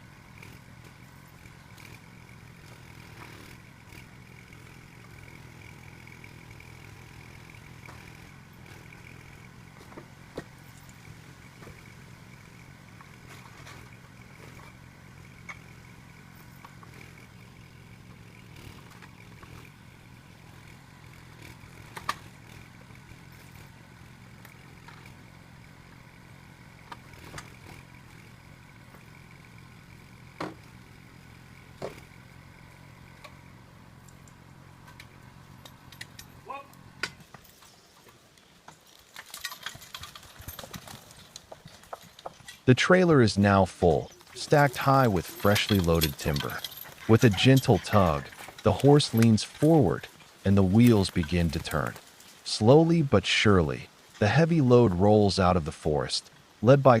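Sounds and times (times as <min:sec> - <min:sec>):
loader engine humming: 0:00.0 - 0:57.0.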